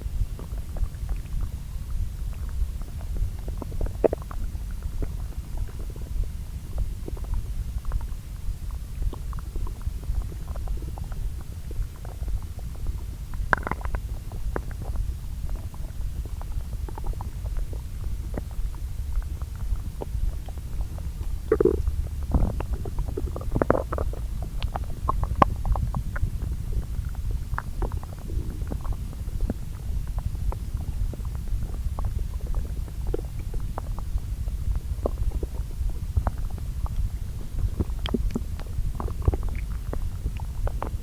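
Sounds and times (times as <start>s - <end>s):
intestine rumbling and gurgling: 0.0s - 41.0s.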